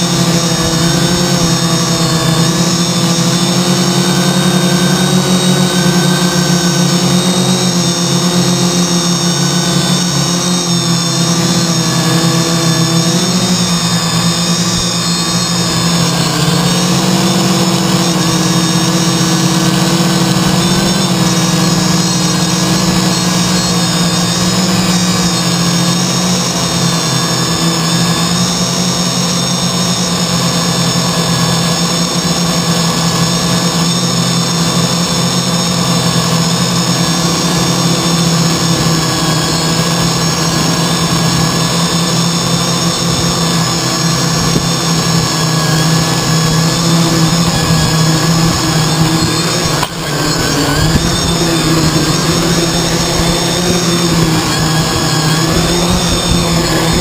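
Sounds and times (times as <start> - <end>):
drone motors and propellers droning: 0.0 - 57.0.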